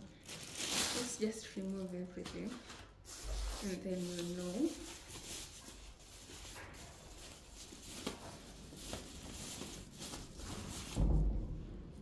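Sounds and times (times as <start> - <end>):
packaging rustling: 0.0 - 11.1.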